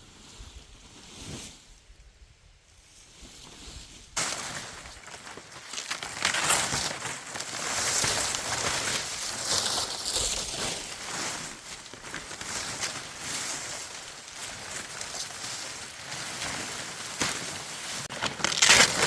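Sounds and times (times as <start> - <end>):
rustling crackling noise: 2.8 - 19.0.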